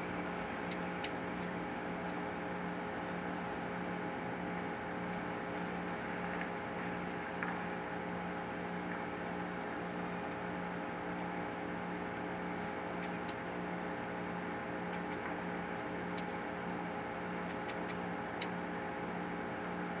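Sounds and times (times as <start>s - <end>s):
mechanical hum with tones: 0.0s - 20.0s.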